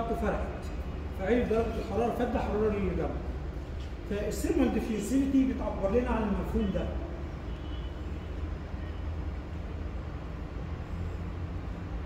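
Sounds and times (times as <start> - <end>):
room hum with faint hiss: 0.0 - 12.0.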